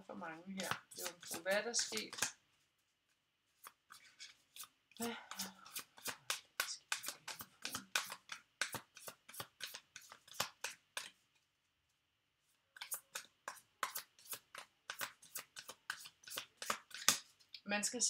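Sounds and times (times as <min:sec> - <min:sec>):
cards being shuffled: 0:00.3 - 0:11.4, 0:12.5 - 0:17.5.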